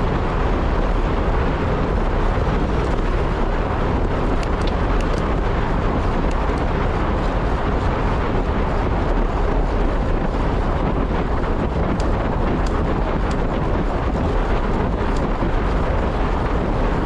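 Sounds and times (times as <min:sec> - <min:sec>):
wind roaring over microphone: 0:00.0 - 0:17.0.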